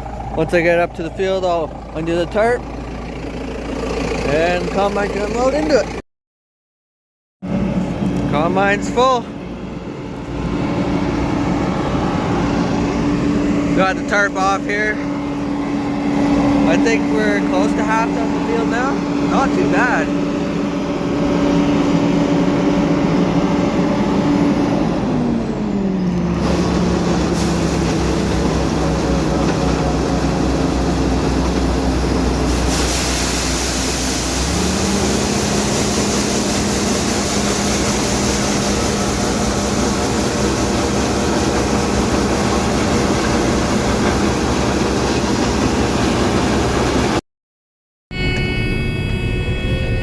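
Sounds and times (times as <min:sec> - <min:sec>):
tractor engine running: 0:00.0 - 0:06.0, 0:07.4 - 0:47.2.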